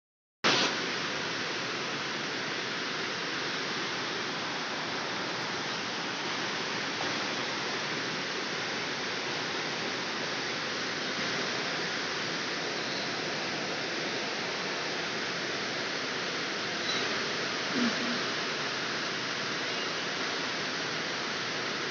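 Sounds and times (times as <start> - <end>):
steady hiss: 0.4 - 21.9.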